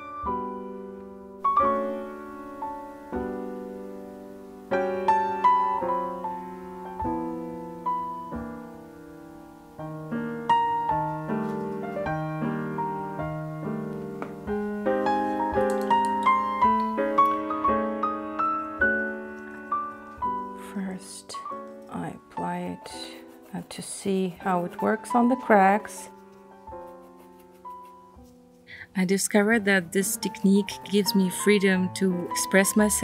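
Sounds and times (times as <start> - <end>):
solo piano music: 0.0 - 28.6, 29.3 - 33.0.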